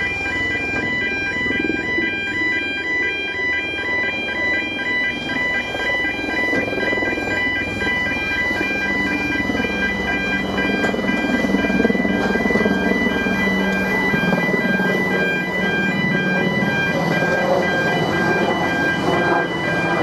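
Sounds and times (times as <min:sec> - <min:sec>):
level crossing alarm warbling: 0:00.0 - 0:20.0
train rumble: 0:03.1 - 0:20.0.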